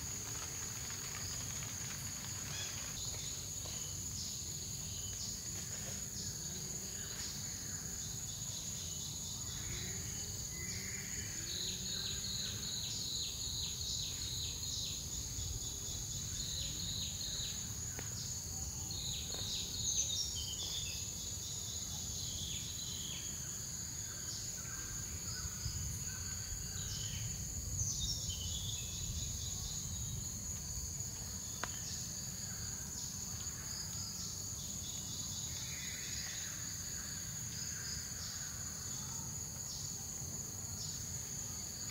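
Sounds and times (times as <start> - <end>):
insects droning: 0.0 - 41.9
rapid ticking insect call: 0.0 - 41.9.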